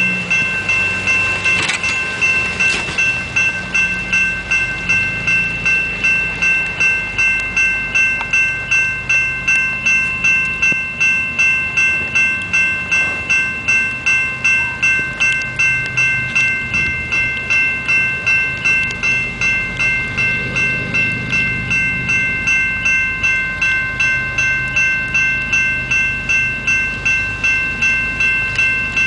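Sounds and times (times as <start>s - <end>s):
crossing bell ringing: 0.0s - 29.0s
low rumble: 0.0s - 29.0s.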